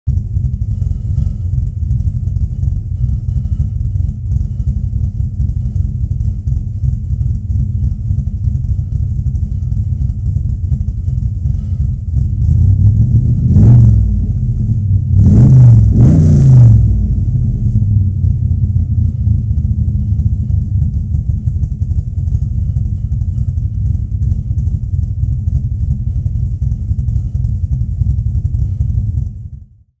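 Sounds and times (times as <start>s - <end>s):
engine throttle blips: 0.1s - 29.7s
car engine idling: 0.1s - 29.9s.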